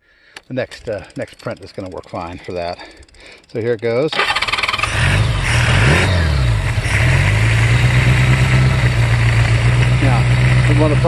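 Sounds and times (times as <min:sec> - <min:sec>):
motorcycle engine starting and idling: 0:00.4 - 0:11.0.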